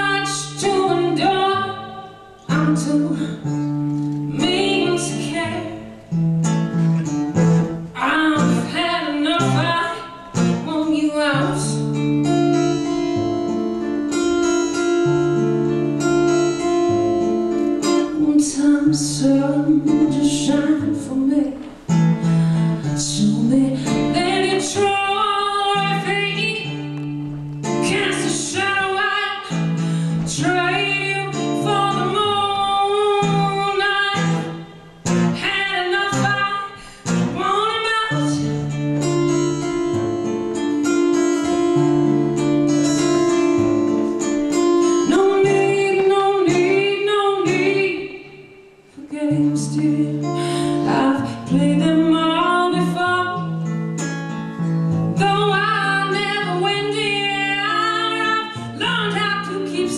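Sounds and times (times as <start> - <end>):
woman singing: 0.0 - 6.2, 7.1 - 40.4, 41.1 - 53.8, 55.1 - 59.9
acoustic guitar strumming: 0.0 - 59.9.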